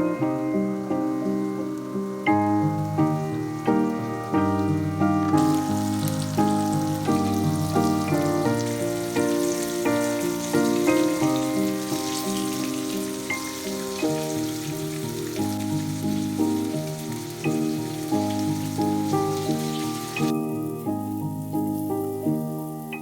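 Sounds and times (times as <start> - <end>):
high hiss with faint crackles: 0.0 - 23.0
instrumental background music: 0.0 - 23.0.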